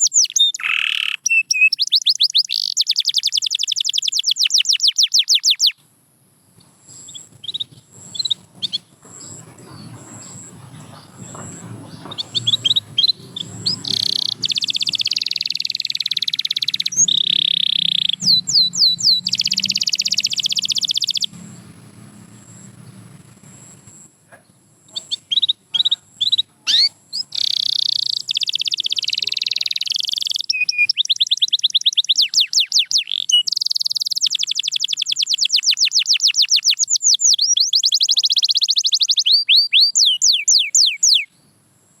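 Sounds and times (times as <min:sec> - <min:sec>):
canary singing: 0:00.0 - 0:05.8, 0:06.6 - 0:41.6.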